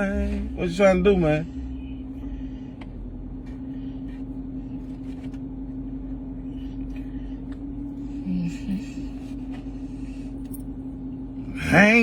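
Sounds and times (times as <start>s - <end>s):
mechanical hum with low rumble: 0.0s - 12.0s.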